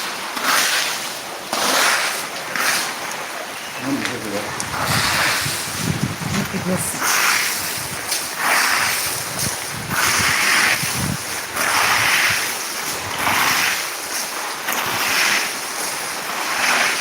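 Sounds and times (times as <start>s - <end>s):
hail being scraped from ground: 0.0s - 17.0s.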